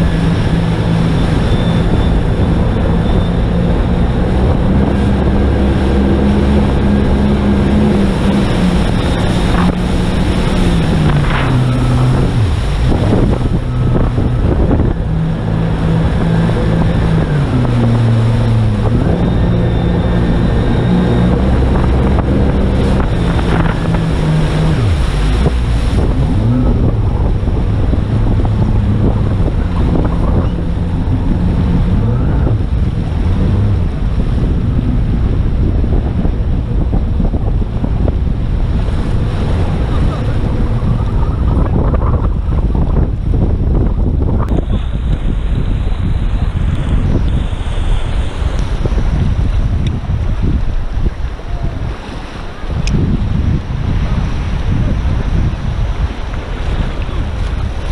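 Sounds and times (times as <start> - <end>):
jet ski engine running: 0.0 - 57.9
water and wind rushing: 0.0 - 57.9.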